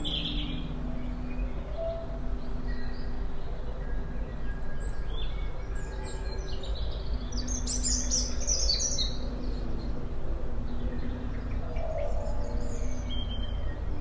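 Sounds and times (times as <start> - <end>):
birds chirping and trilling: 0.0 - 14.0.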